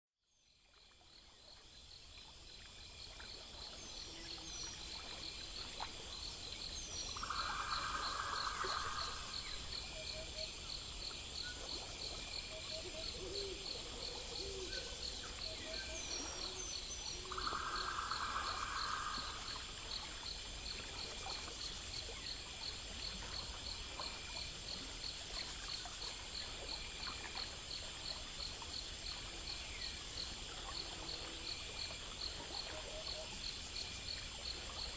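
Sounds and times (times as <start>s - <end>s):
insects chirping: 0.3s - 34.9s.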